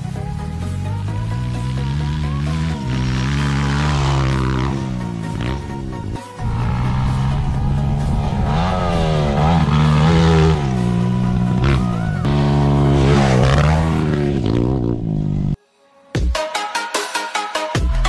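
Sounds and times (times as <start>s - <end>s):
dirt bike engine revving: 1.0s - 15.6s.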